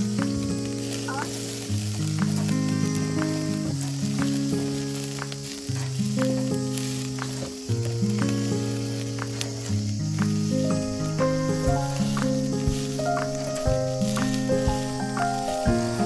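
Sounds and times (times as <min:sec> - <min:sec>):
food sizzling as it fries: 0:00.0 - 0:16.0
music with slow sustained chords: 0:00.0 - 0:16.0.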